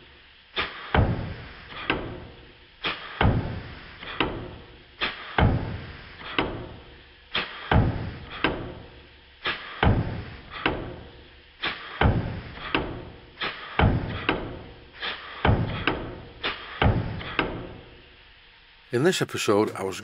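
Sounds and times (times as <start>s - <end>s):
hiss of exhaust air: 0.0s - 18.2s
steam engine heavy knocks: 0.6s - 17.9s.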